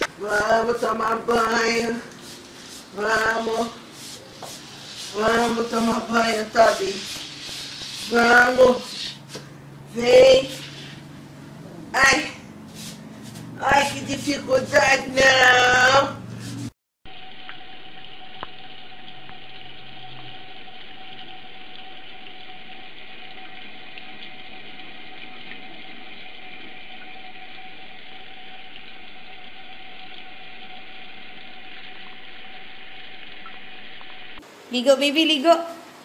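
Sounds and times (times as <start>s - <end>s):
faint steady whine: 0.0s - 36.0s.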